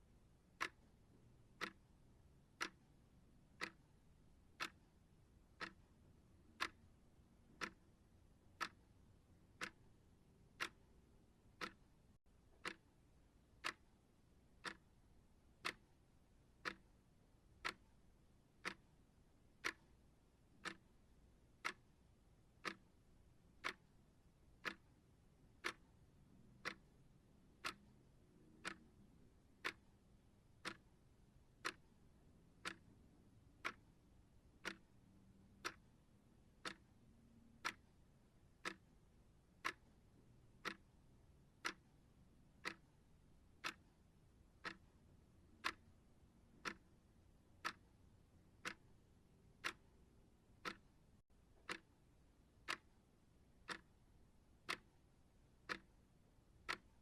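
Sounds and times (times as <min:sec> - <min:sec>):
timer ticking: 0:00.5 - 0:57.0.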